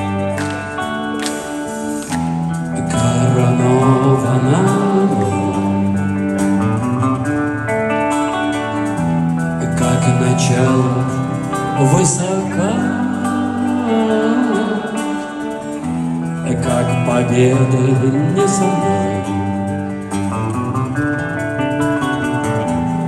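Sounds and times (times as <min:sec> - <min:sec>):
acoustic guitar: 0:00.0 - 0:23.0
live band slow song: 0:00.0 - 0:23.0.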